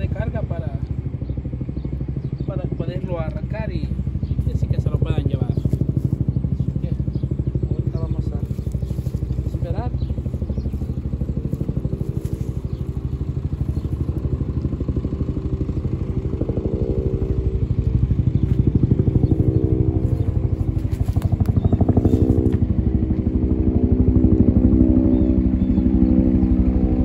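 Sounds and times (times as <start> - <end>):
large engine idling: 0.0 - 27.0.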